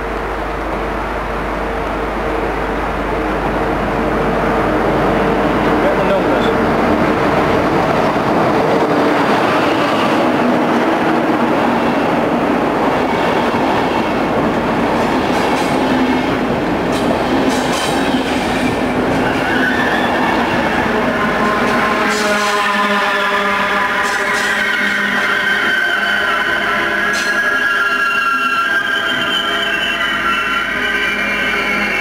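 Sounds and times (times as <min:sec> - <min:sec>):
passing train rumble: 0:00.0 - 0:32.0.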